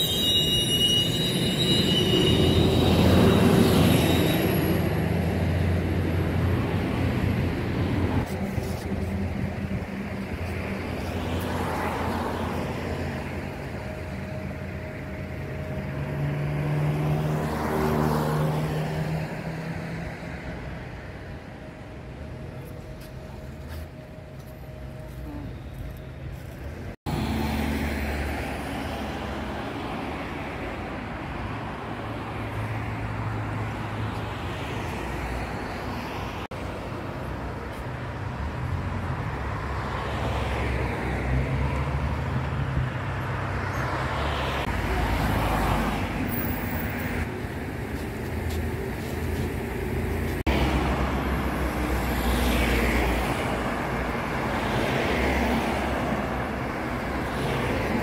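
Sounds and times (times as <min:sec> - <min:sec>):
cars passing on a street: 0:00.0 - 0:58.0
engine rumble and tyre noise: 0:00.0 - 0:58.0.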